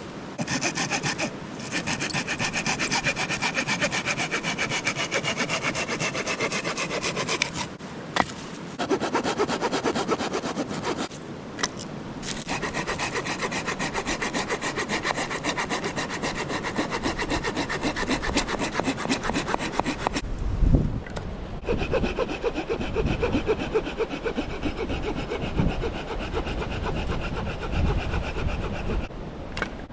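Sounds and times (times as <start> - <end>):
hand saw cutting wood: 0.4 - 7.8, 8.8 - 11.2, 12.2 - 20.2, 21.6 - 29.1.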